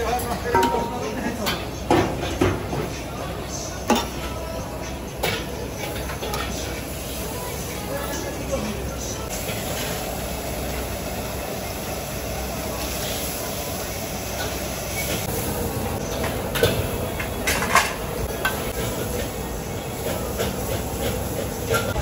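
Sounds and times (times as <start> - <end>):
utensils clanking on pans: 0.0 - 10.9, 14.2 - 22.0
kitchen rushing roar: 0.0 - 22.0.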